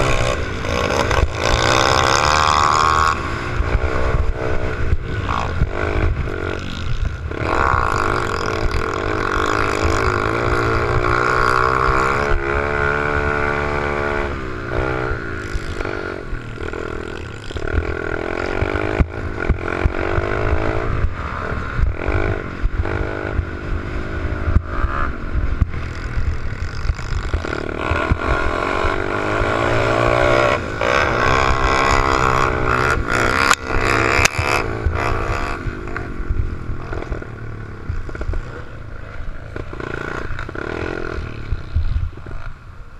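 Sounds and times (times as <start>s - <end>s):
pit bike engine running hard: 0.0s - 42.9s.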